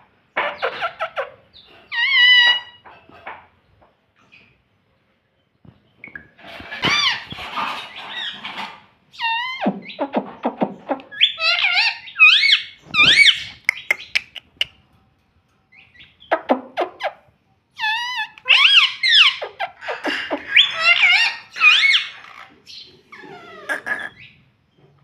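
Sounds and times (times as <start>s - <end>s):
parrot squawking and chirping: 0.3s - 3.3s, 6.0s - 14.8s, 15.9s - 24.4s.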